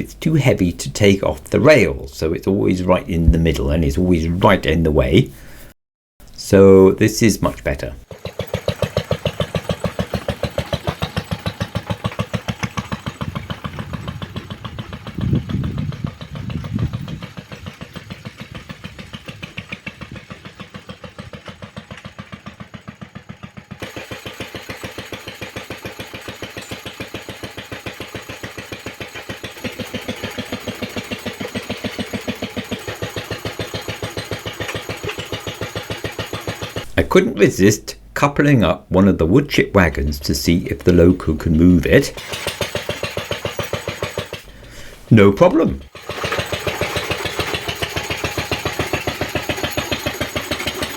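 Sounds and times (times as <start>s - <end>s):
locomotive engine running: 7.4s - 38.2s, 38.9s - 50.9s.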